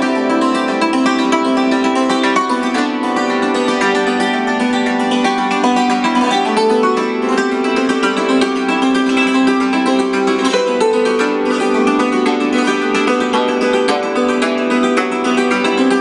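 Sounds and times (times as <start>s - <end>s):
hammered dulcimer playing: 0.0s - 16.0s.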